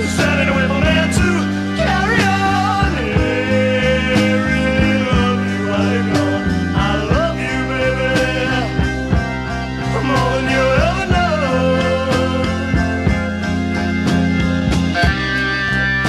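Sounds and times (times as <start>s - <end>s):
rock ballad from vinyl: 0.0s - 16.0s.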